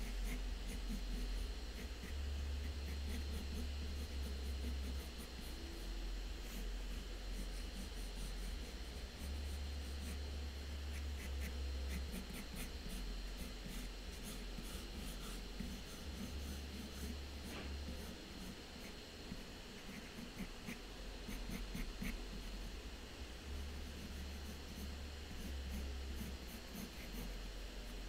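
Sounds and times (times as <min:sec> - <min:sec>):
pencil sketching on paper: 0:00.0 - 0:28.0.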